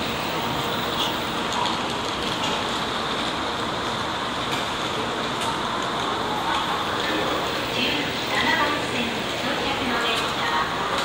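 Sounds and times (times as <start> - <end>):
station platform background noise: 0.0 - 11.0.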